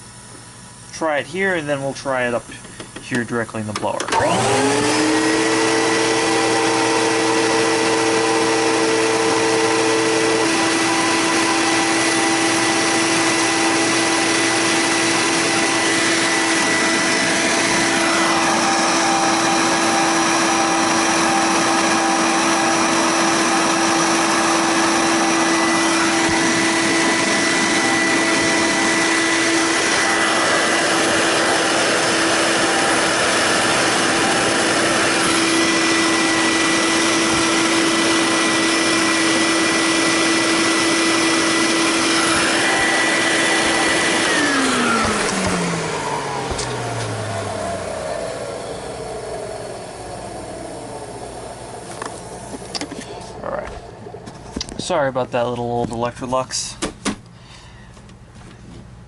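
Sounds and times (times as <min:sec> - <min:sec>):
vacuum cleaner whining: 0:00.0 - 0:56.6.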